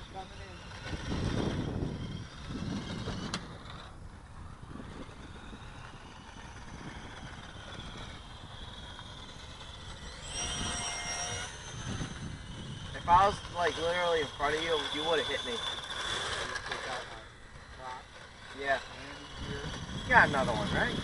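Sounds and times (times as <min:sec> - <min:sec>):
low rumbling gusts: 0:00.0 - 0:21.0
model motors whining: 0:00.0 - 0:21.0.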